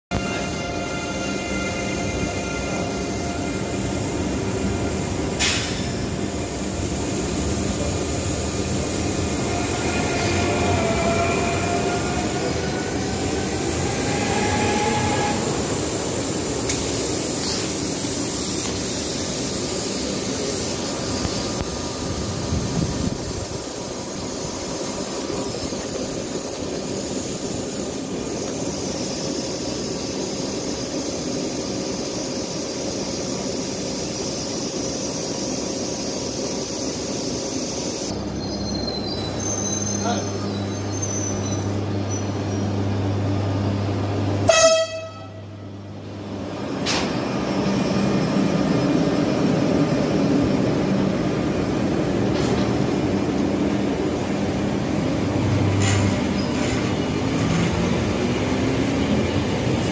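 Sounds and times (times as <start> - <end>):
train wheels rumbling on rails: 0.1 - 59.9.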